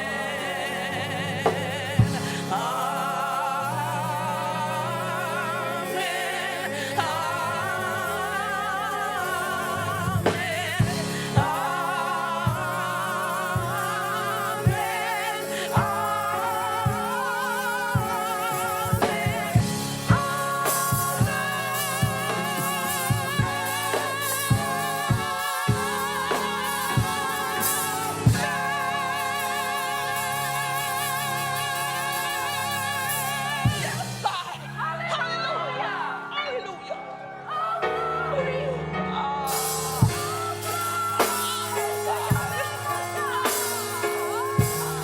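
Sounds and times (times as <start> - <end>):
gospel voices singing: 0.0 - 45.0.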